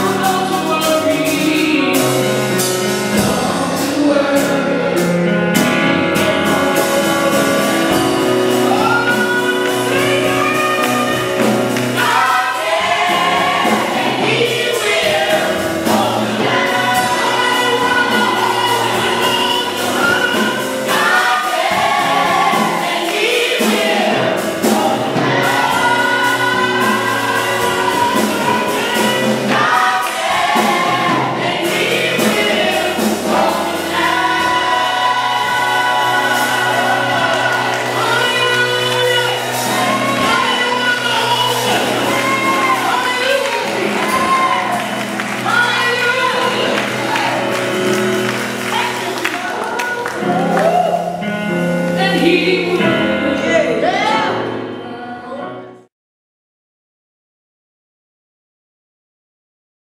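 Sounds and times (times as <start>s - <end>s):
gospel choir singing: 0.0s - 55.9s.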